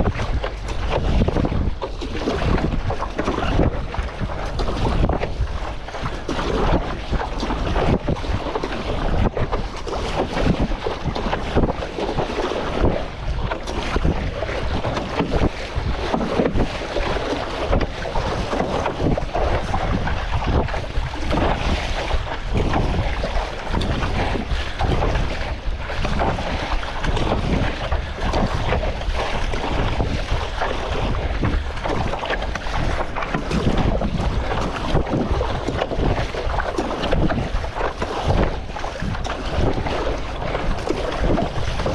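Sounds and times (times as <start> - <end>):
choppy water splashing: 0.0 - 41.9
wind buffeting microphone: 0.0 - 41.9.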